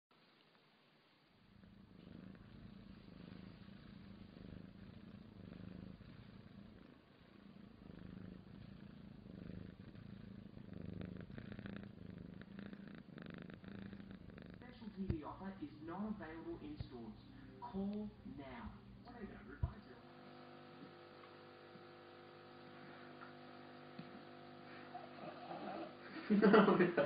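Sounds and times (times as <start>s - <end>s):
cat purring: 0.1s - 27.0s
faint crackling: 1.8s - 26.3s.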